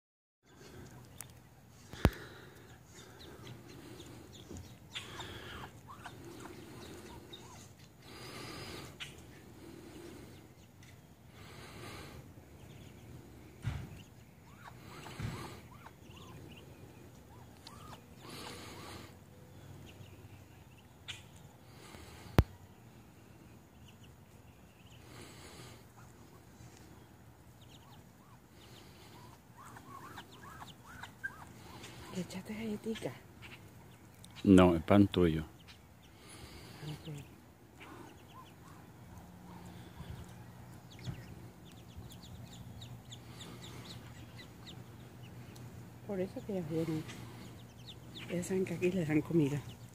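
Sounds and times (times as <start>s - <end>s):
ducklings peeping: 0.5s - 49.9s.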